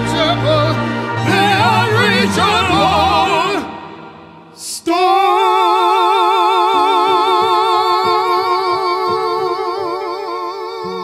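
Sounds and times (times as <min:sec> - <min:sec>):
man singing long high note: 0:00.0 - 0:11.0.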